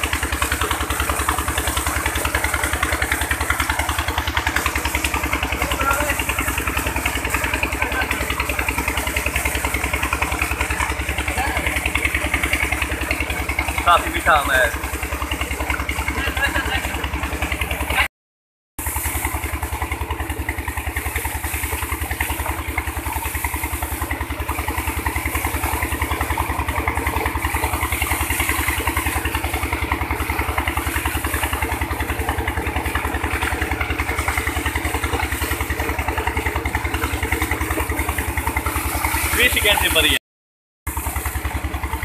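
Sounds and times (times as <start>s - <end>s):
pump engine running: 0.0s - 18.1s, 18.8s - 40.2s, 40.8s - 42.0s
water gushing into tank: 0.0s - 18.1s, 18.8s - 40.2s, 40.9s - 42.0s.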